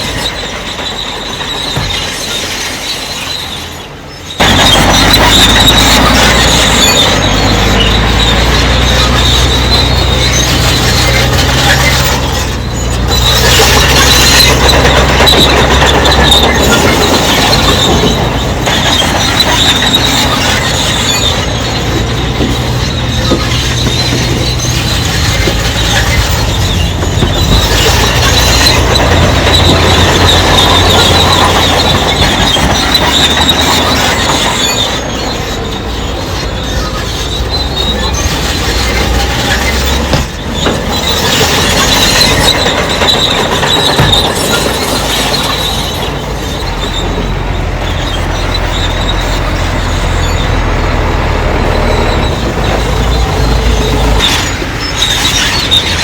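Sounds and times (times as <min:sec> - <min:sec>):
bulldozer diesel engine under load: 0:00.0 - 0:56.0
steel tracks squealing and clanking: 0:00.0 - 0:56.0.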